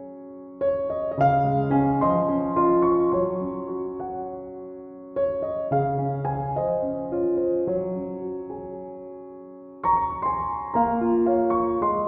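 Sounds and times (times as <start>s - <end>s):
soft piano notes: 0.0s - 12.0s.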